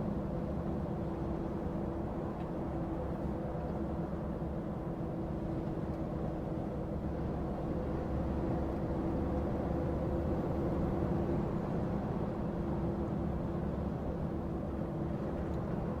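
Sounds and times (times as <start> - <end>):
lorry engine and tyre rumble: 0.0 - 16.0.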